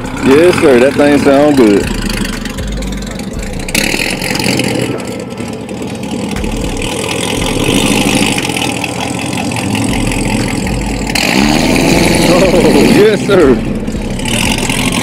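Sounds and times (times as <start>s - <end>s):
car engine pulling away: 0.0s - 15.0s.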